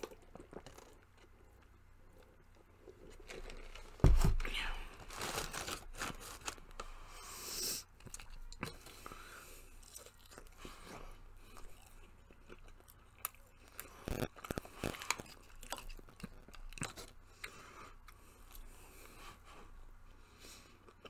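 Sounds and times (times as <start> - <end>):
person chewing crunchy food: 0.0 - 4.0, 7.8 - 21.0.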